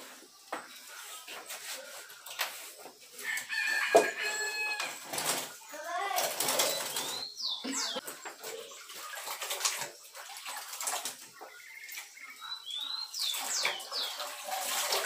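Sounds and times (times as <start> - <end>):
broom scrubbing wet concrete: 0.0 - 4.7, 7.2 - 15.0.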